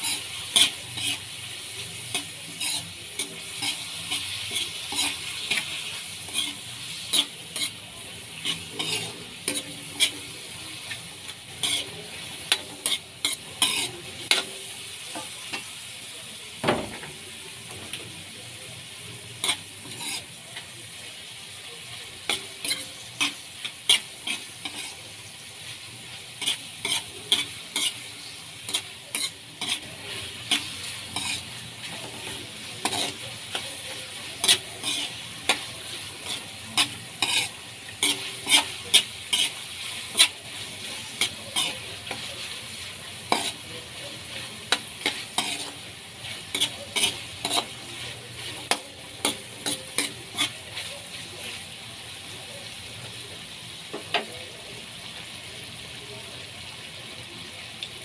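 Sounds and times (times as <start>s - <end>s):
metal spatula scraping a wok: 0.0s - 15.7s, 19.3s - 20.7s, 21.8s - 51.7s
hot oil sizzling: 0.0s - 58.0s.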